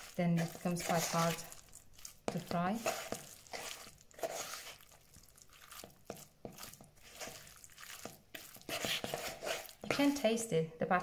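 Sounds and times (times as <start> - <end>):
wet squelches of batter mixing: 0.0 - 11.0.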